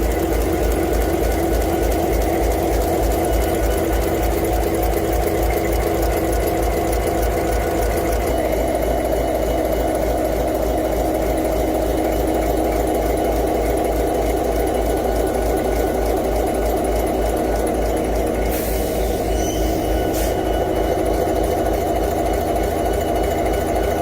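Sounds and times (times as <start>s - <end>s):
large engine running with clatter: 0.0s - 24.0s.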